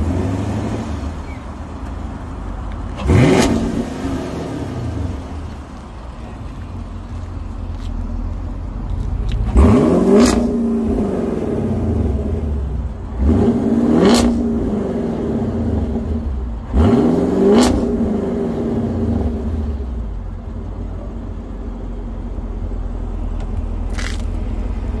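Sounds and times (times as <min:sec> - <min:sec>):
car engine revving and idling: 0:00.0 - 0:25.0.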